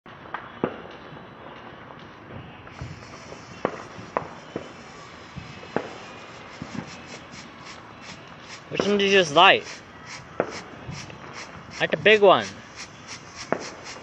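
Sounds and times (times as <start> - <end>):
fireworks popping: 2.7 - 14.0.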